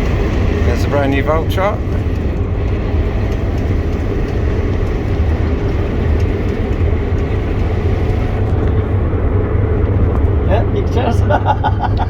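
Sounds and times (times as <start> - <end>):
heavy vehicle engine running: 0.0 - 12.0.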